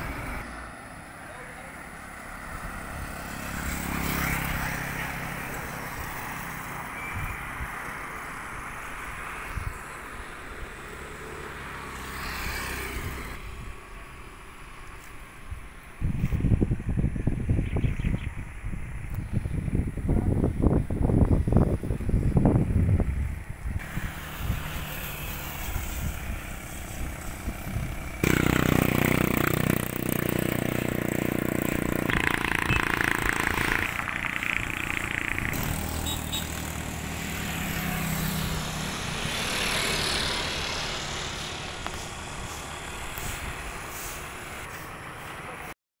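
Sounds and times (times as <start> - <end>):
motorcycles passing: 0.0 - 45.8.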